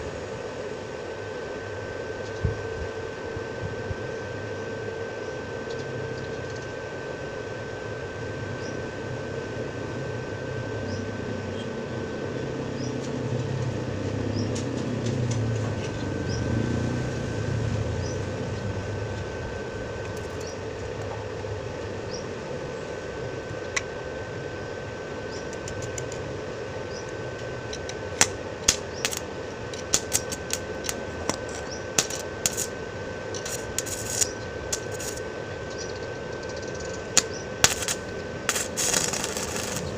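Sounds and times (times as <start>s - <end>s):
machine hum with thin whine: 0.0s - 39.9s.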